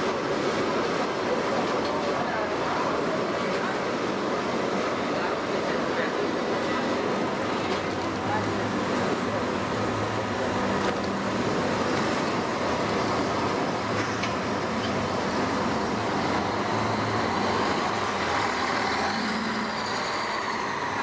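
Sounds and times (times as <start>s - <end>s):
traffic with engine hum: 0.0s - 21.0s.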